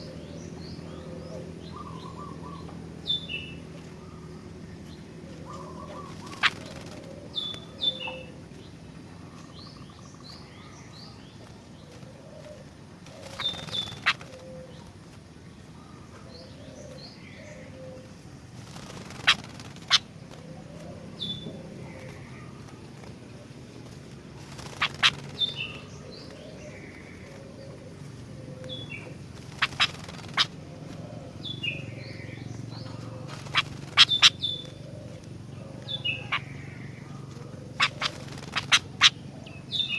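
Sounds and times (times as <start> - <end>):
bulbul calling in sharp bursts: 0.0 - 11.5, 12.3 - 39.9
steady low hum: 0.0 - 39.9.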